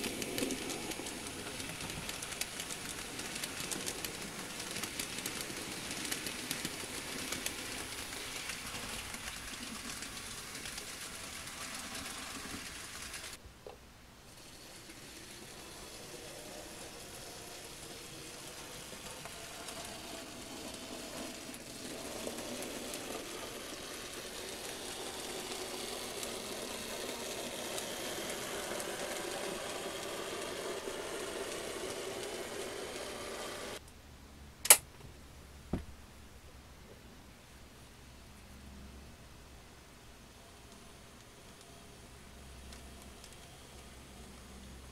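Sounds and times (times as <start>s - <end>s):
model train whirring on track: 0.0s - 13.4s, 14.2s - 33.8s, 39.8s - 44.9s.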